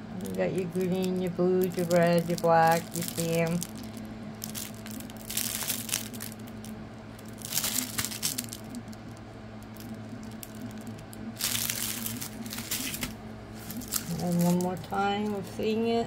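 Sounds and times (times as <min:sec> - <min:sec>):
plastic bags crinkling: 0:00.0 - 0:15.5
steady low hum: 0:00.0 - 0:16.0.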